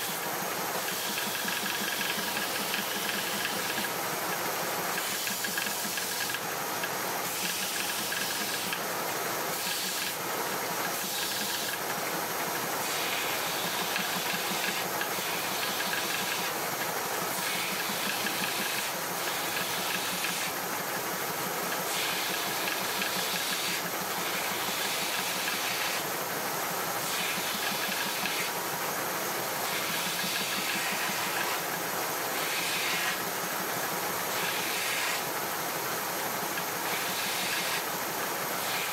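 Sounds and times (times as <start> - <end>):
belt sander on wood: 0.0 - 38.9.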